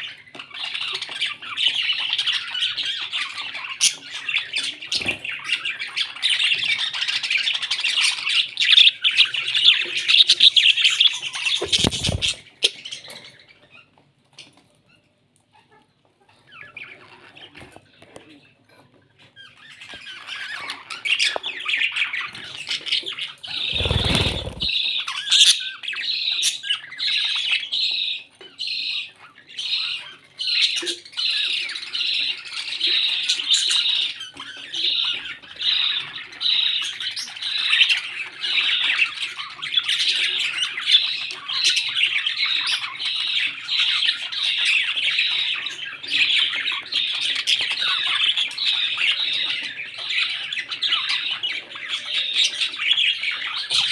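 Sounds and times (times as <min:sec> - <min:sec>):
parrots chattering and squawking: 0:00.0 - 0:53.9.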